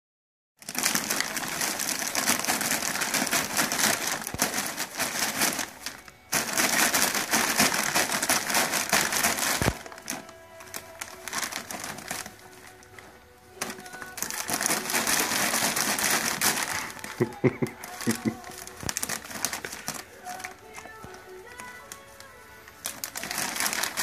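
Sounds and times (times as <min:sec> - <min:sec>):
plastic bags crinkling: 0:00.6 - 0:24.0.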